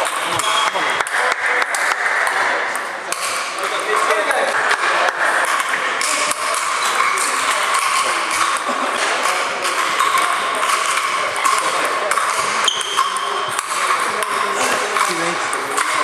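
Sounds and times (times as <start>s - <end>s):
background chatter of voices: 0.0s - 16.0s
ping pong ball clicks: 0.0s - 16.0s.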